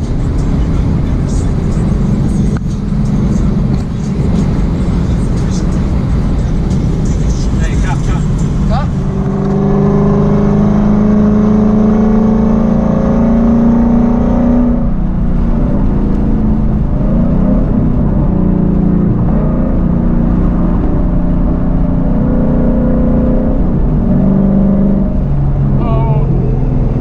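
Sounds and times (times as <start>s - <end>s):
car engine at full throttle: 0.0s - 27.0s.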